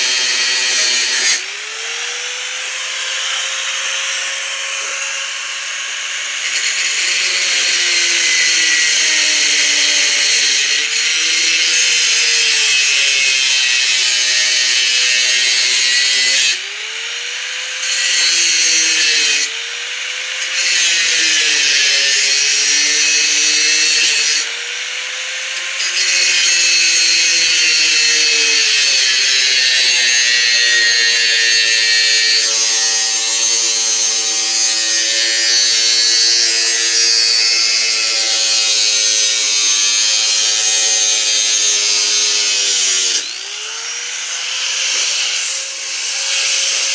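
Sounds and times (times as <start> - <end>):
angle grinder cutting: 0.0 - 46.9.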